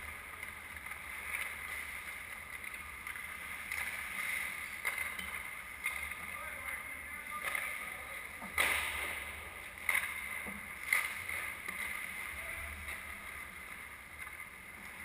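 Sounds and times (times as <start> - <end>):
skate strides swishing on ice: 0.0 - 15.0.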